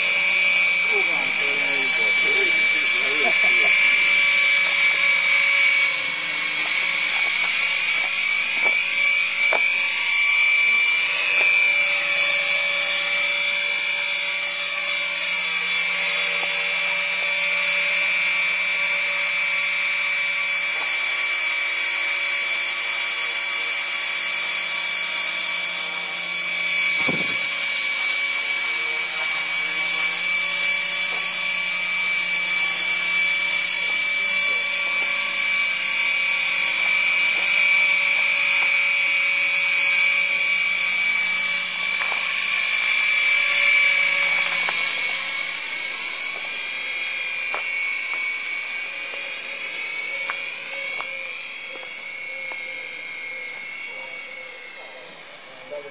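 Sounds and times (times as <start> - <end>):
model helicopter motor whine: 0.0 - 55.9.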